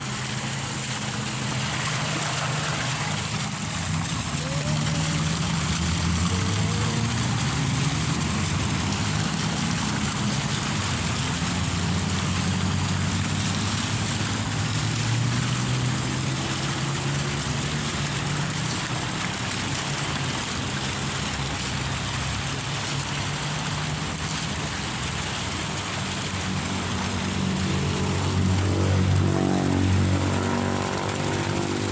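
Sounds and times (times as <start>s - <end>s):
fountain water spraying: 0.0s - 31.9s.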